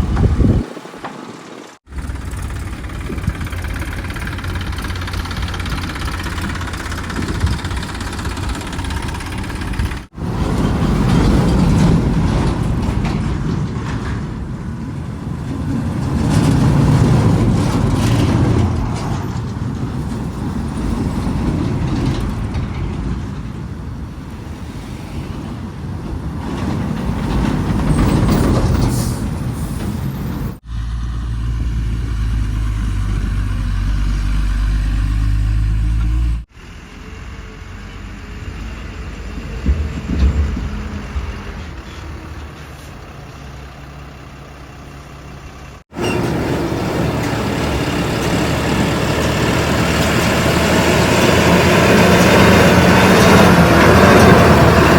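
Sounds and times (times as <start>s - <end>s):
heavy diesel machinery running: 1.8s - 24.6s, 25.4s - 54.9s.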